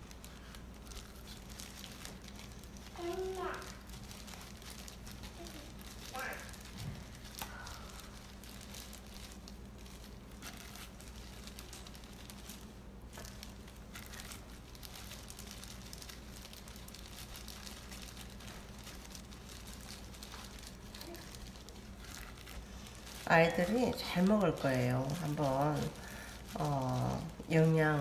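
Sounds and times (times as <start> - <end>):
faint low hum: 0.0 - 28.0
plastic gloves crinkling: 0.0 - 28.0.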